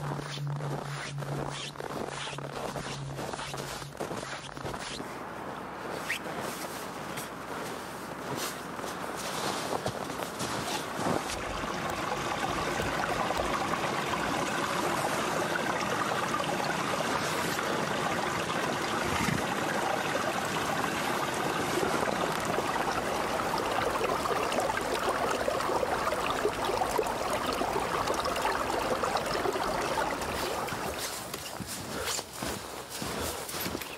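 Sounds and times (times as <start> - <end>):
creek running over rocks: 0.0 - 33.9.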